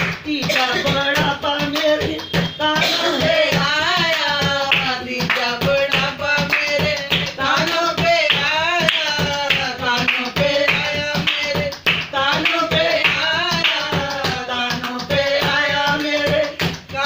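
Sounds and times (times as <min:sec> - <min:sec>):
hand claps: 0:00.0 - 0:17.0
woman singing folk song: 0:00.2 - 0:17.0.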